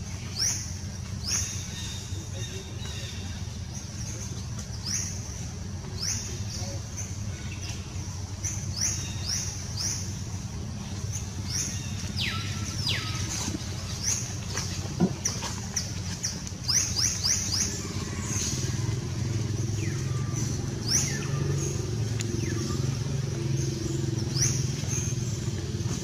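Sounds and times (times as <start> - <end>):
birds chirping: 0.0 - 26.0
low motor hum: 0.0 - 26.0.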